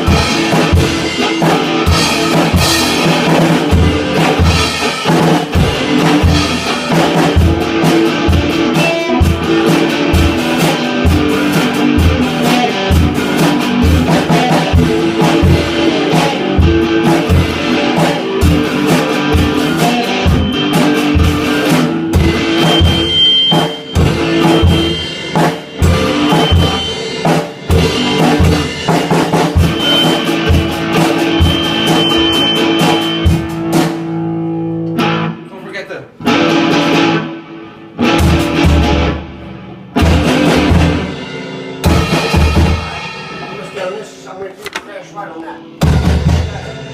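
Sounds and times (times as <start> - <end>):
sustained guitar chords: 0.0 - 35.5, 36.1 - 44.4
drum kit beat: 0.0 - 46.9.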